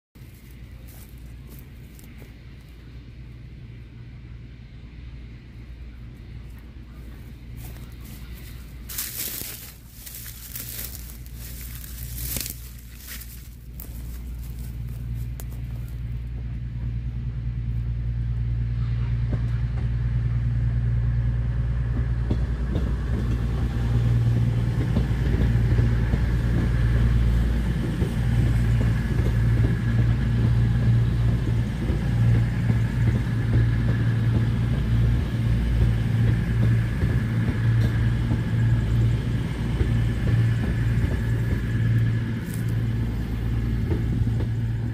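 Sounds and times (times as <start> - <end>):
diesel train engine drone: 0.2 - 44.9.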